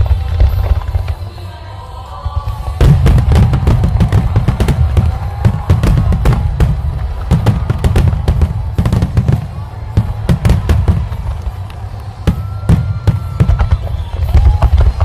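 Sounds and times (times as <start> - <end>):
fireworks bangs and cracks: 0.0 - 1.3, 2.4 - 15.0.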